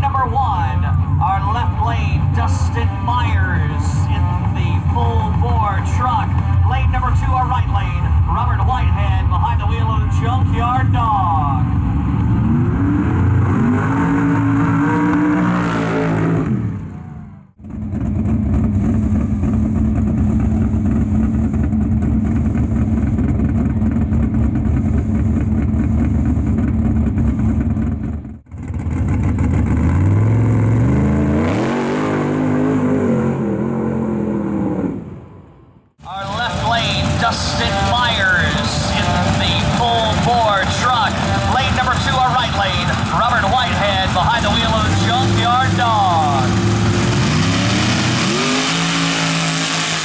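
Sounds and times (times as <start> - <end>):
truck engine revving and idling: 0.0 - 50.0.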